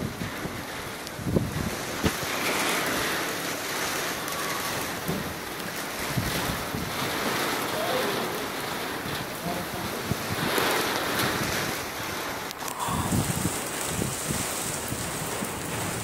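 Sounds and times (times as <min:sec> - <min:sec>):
strong wind rushing: 0:00.0 - 0:07.7, 0:09.0 - 0:16.0
wind buffeting microphone: 0:00.0 - 0:16.0.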